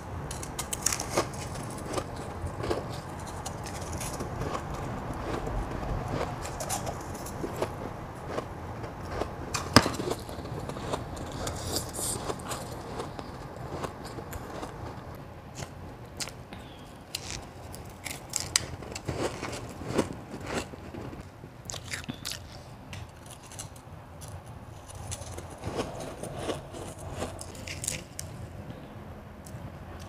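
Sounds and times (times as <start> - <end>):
person chewing crushed ice: 0.3 - 28.5.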